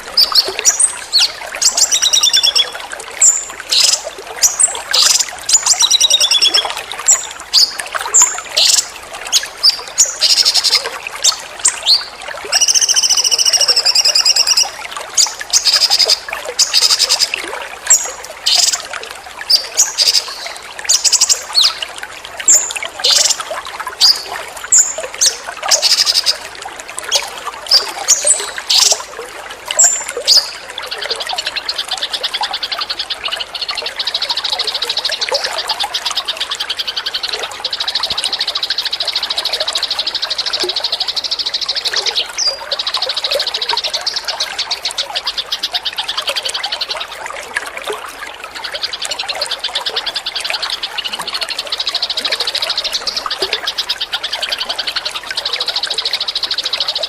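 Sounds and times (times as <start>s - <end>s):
songbird calls and chirps: 0.0s - 26.5s, 27.1s - 47.6s
water trickling: 0.0s - 57.0s.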